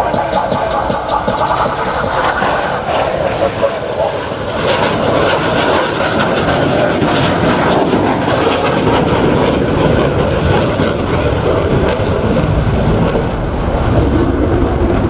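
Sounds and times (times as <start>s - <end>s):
jets flying by: 0.0s - 15.0s.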